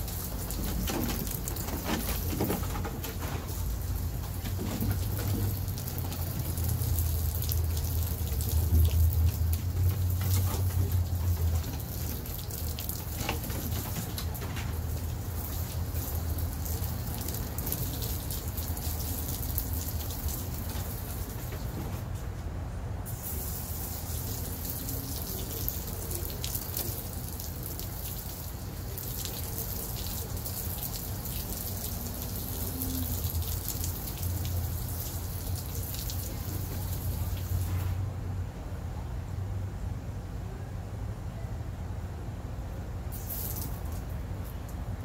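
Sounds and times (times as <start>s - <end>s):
hose spraying water on wood: 0.0s - 22.0s, 23.1s - 38.0s, 43.1s - 44.0s.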